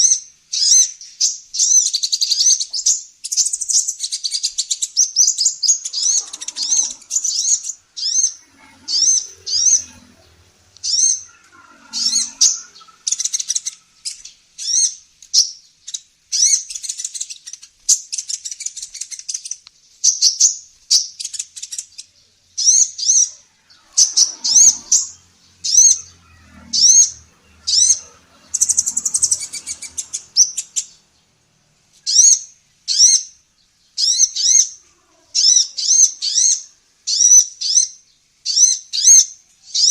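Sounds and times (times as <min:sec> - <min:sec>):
bird chirping in rapid bursts: 0:00.0 - 0:39.9.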